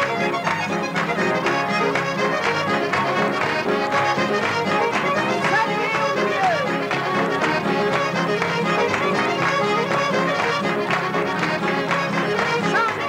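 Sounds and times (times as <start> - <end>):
accordion: 0.0 - 13.0
folk dance tune on violin: 0.0 - 13.0
guitar: 0.0 - 13.0.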